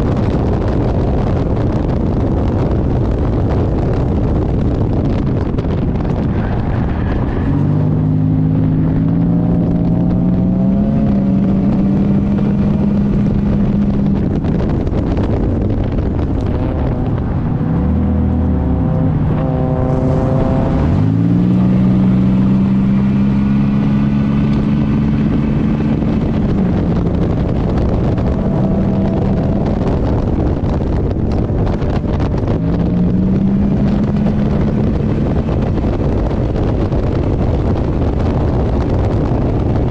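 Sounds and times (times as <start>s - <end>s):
wind rush on microphone: 0.0s - 39.9s
race car engine revving: 0.2s - 39.9s.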